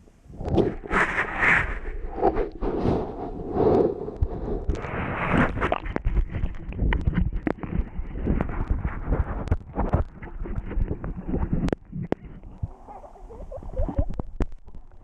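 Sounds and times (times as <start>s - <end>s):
water splashing and sloshing: 0.4s - 15.0s.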